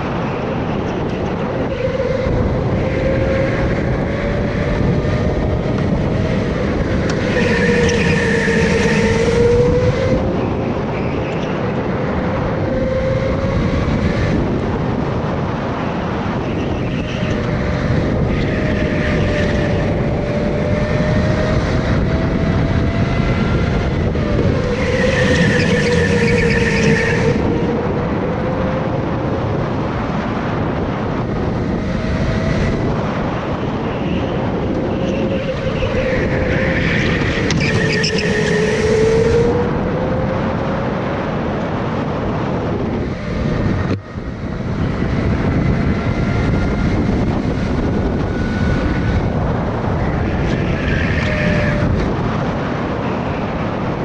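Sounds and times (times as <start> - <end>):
go-kart engine running: 0.0 - 54.0
high-pitched squeal: 0.2 - 14.4, 16.3 - 29.3, 31.6 - 40.9, 43.0 - 53.6.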